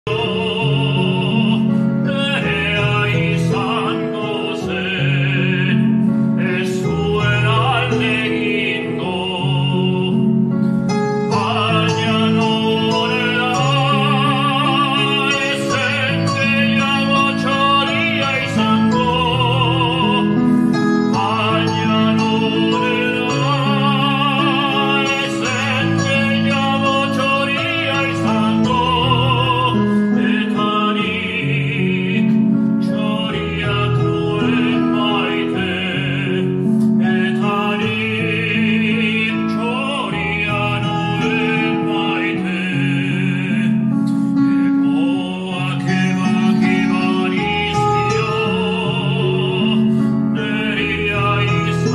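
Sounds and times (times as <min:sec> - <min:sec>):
man singing operatically: 0:00.0 - 0:51.9
instrumental accompaniment: 0:00.1 - 0:51.9.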